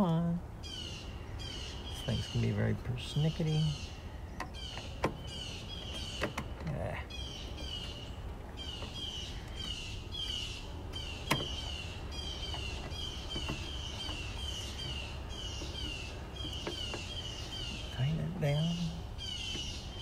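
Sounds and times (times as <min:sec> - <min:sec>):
bird chirping: 0:00.0 - 0:20.0
low background rumble: 0:00.0 - 0:20.0.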